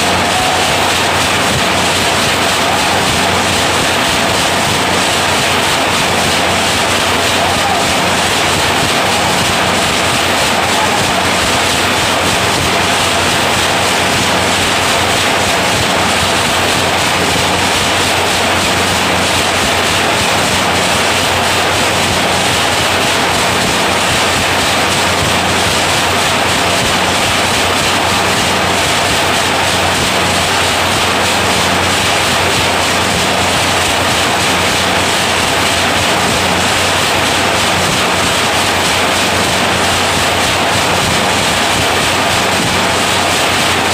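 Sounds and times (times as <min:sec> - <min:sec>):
nail making machine clatter: 0:00.0 - 0:43.9.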